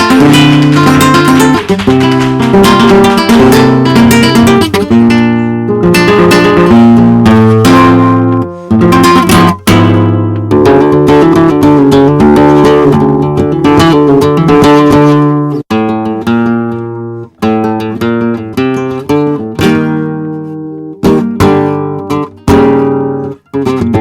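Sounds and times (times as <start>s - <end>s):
flamenco-like acoustic guitar: 0.0s - 24.0s.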